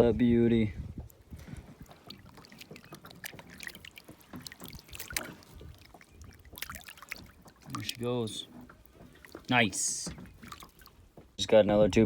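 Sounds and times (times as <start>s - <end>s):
water trickling and dripping: 0.6s - 11.4s.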